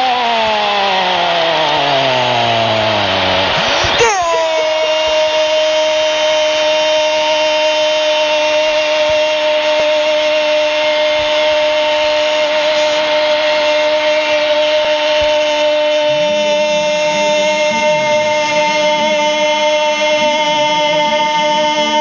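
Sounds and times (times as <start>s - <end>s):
commentator's long held goal call: 1.0s - 22.0s.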